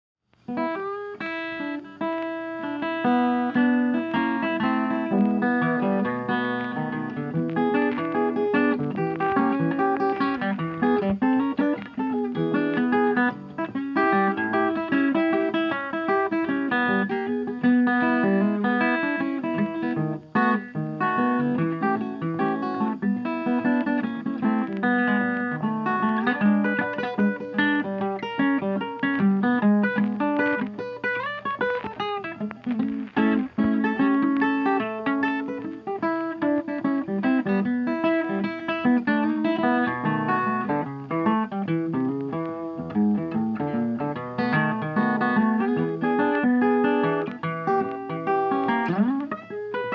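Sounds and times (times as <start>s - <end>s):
fast plucked acoustic guitar: 0.5s - 49.9s.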